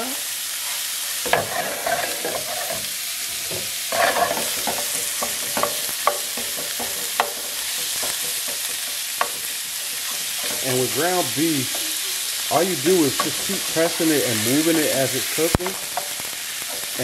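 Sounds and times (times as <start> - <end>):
meat sizzling in a frying pan: 0.0 - 17.0
utensil scraping a pan: 0.6 - 17.0
utensil clicking on pan: 1.2 - 2.9, 3.5 - 17.0.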